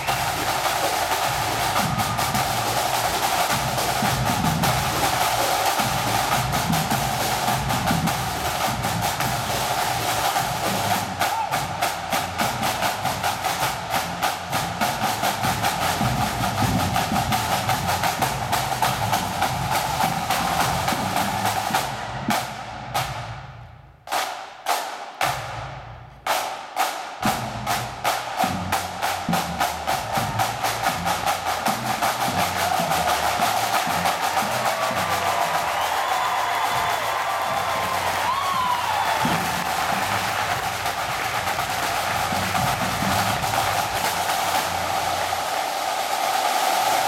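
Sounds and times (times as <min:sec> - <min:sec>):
bass drum: 0:00.0 - 0:24.1, 0:27.2 - 0:45.4
snare drum rolls: 0:00.0 - 0:47.0.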